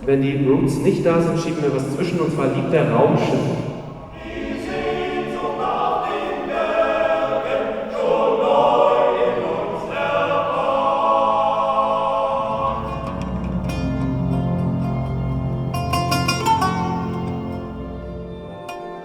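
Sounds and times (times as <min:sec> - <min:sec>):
choir singing held notes: 0:00.0 - 0:19.0.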